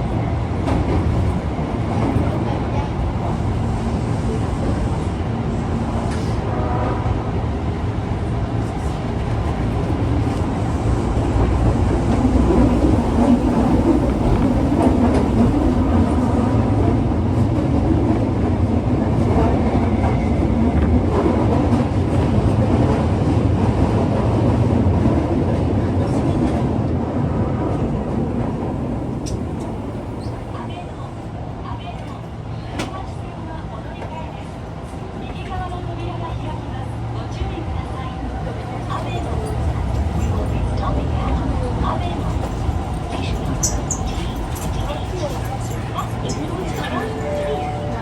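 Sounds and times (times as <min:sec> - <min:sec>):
subway train wheels rumbling on rail: 0:00.0 - 0:48.0.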